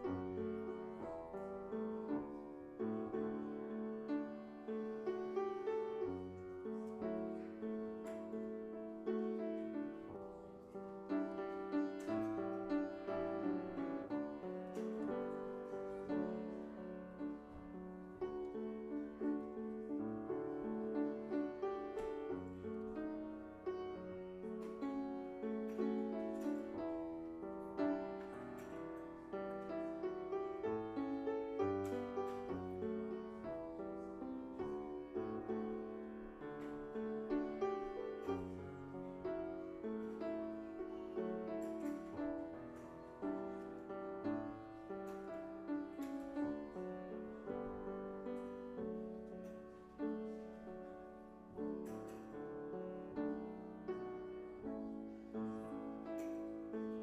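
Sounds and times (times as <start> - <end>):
piano playing notes and chords: 0.0 - 57.0.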